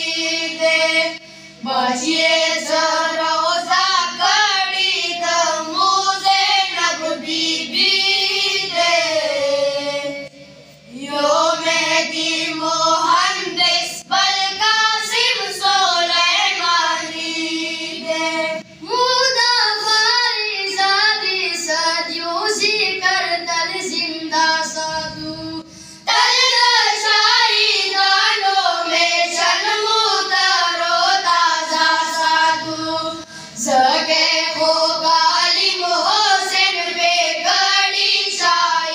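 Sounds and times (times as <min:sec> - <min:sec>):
boys singing together: 0:00.0 - 0:10.3, 0:11.0 - 0:38.9.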